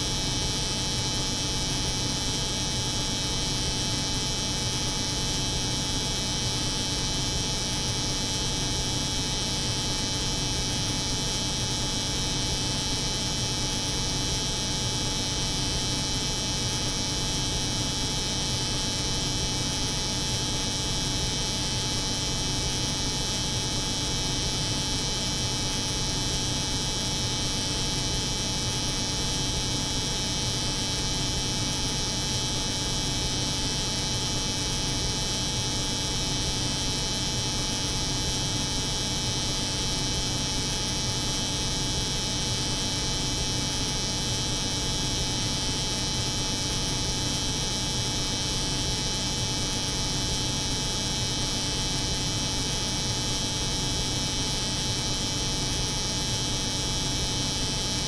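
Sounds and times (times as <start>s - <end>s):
refrigeration unit hum: 0.0s - 58.0s.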